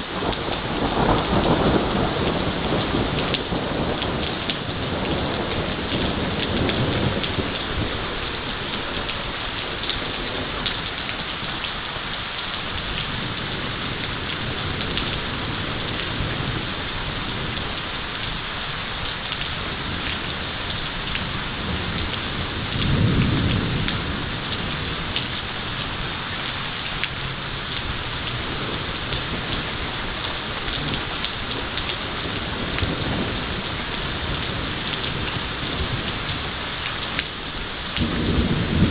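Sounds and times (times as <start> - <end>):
heavy rain falling: 0.0 - 38.9
thunder rumbling: 0.0 - 38.9.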